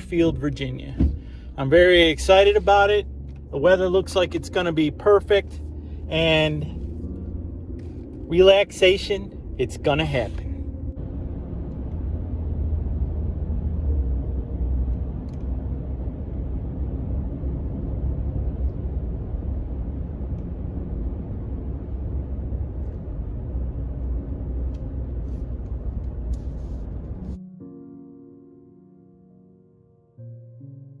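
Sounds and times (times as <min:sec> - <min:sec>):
vehicle road and engine rumble: 0:00.0 - 0:27.4.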